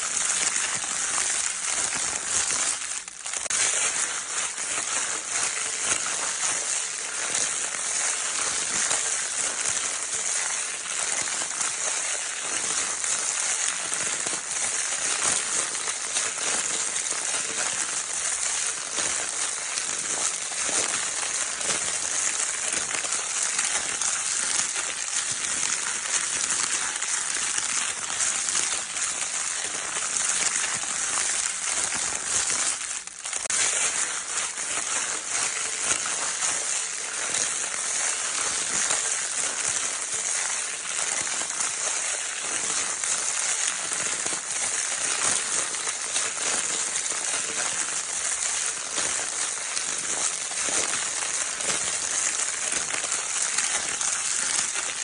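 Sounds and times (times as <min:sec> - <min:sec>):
crinkle toy paper crinkling: 0:00.0 - 0:55.0.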